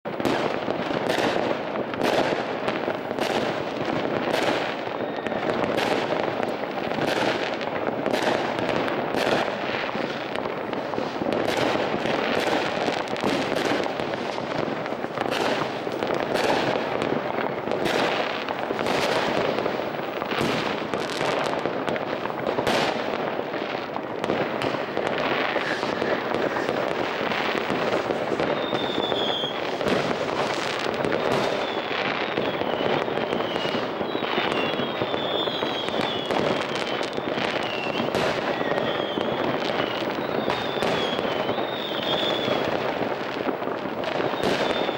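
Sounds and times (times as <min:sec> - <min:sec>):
fireworks banging and crackling: 0:00.0 - 0:44.9
firework whistle: 0:00.2 - 0:23.6, 0:24.2 - 0:44.9.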